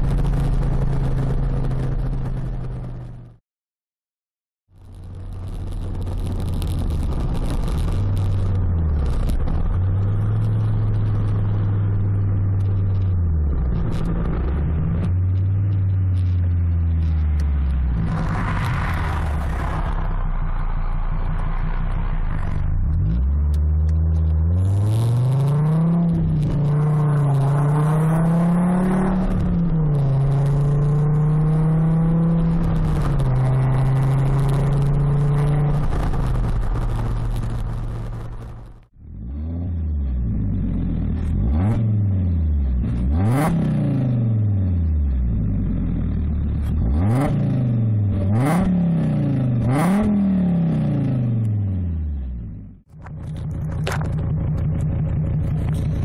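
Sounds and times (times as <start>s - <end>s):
exhaust cracks: 4.7s - 56.0s
car engine revving: 5.0s - 56.0s.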